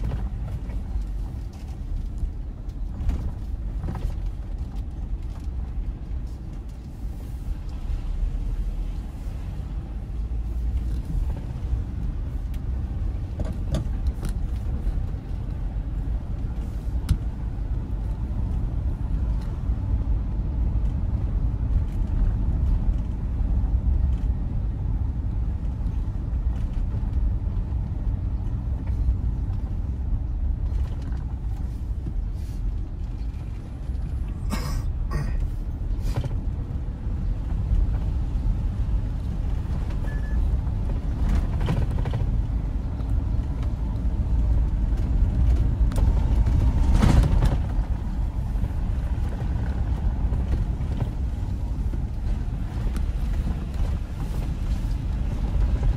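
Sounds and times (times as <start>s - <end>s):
vehicle rumble in motion: 0.0s - 55.9s.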